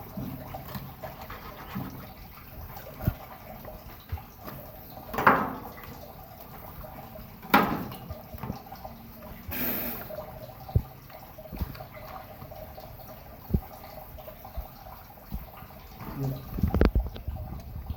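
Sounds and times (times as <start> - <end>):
running water splashing: 0.0 - 17.9.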